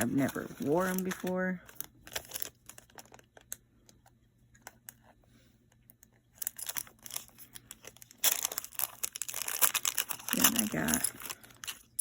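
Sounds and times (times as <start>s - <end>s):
plastic packaging crinkling: 0.0s - 4.0s, 6.0s - 12.0s.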